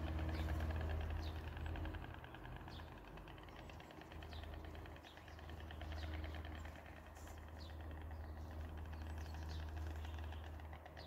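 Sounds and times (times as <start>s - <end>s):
small bird chirping: 0.0s - 11.0s
vehicle engine idling: 0.0s - 11.0s.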